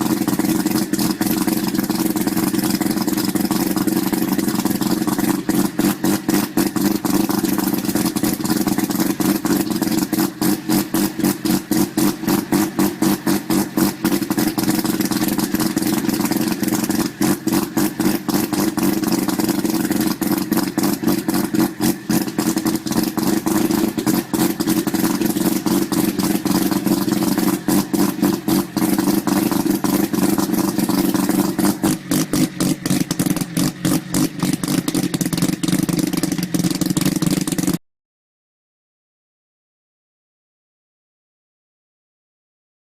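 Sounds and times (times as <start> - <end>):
rotary engine choppy idle: 0.0 - 37.8.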